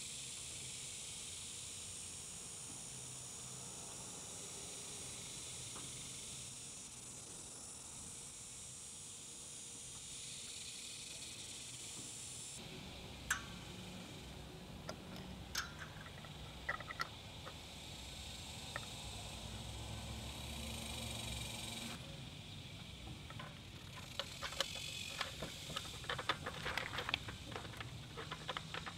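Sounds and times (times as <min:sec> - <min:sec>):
high background hiss: 0:00.0 - 0:28.9.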